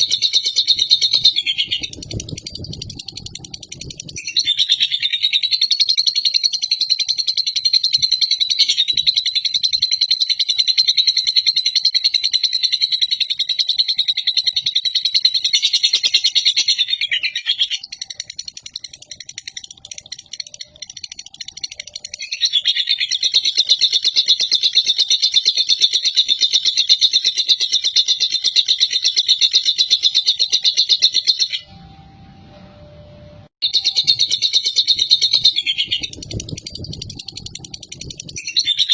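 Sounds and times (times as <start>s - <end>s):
bird rapid chirping chatter: 0.0s - 31.7s, 33.6s - 38.9s.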